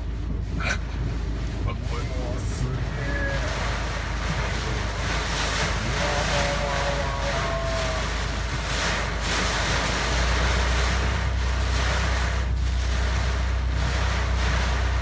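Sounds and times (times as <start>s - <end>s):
strong wind gusting: 0.0s - 15.0s
vehicle low rumble: 0.0s - 15.0s.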